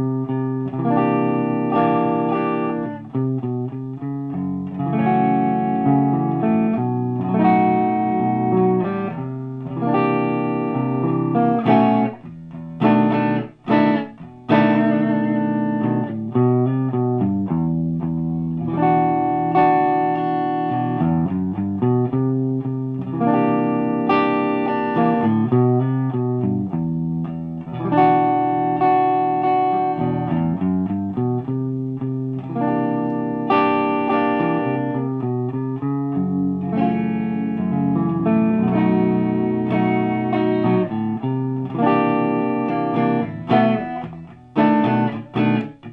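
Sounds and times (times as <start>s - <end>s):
clean electric guitar: 0.0s - 45.9s.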